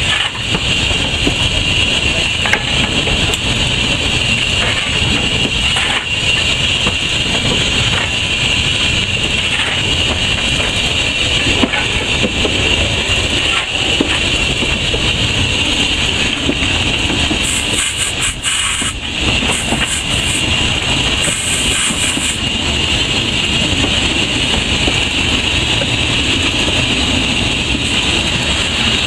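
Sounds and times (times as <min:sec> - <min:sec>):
locomotive engine rumble: 0:00.0 - 0:29.0
steam hissing: 0:00.0 - 0:29.0.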